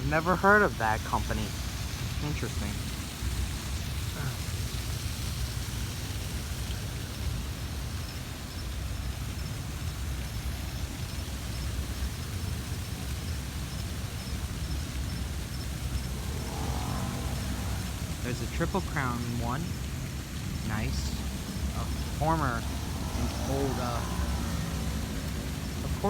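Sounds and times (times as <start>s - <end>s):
train cars rumbling: 0.0s - 26.0s
train hiss: 0.0s - 26.0s.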